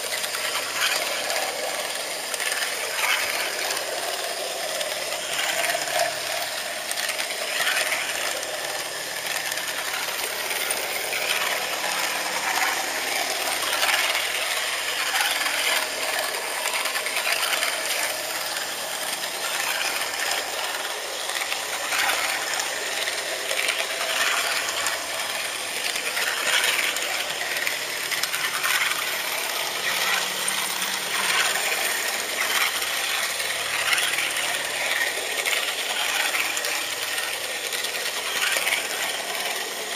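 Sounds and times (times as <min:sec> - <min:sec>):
model train rattling on track: 0:00.0 - 0:39.9.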